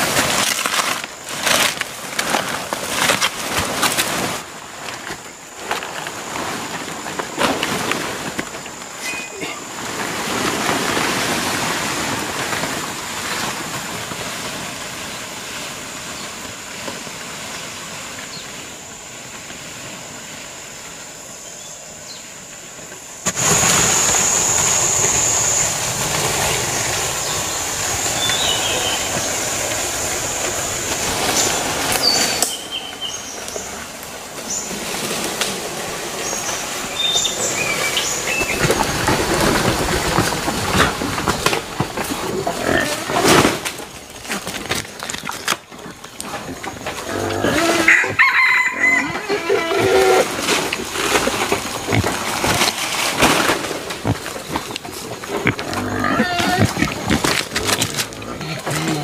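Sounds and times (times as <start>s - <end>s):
insect drone: 0.0s - 59.0s
rustling leaves and undergrowth: 0.0s - 59.0s.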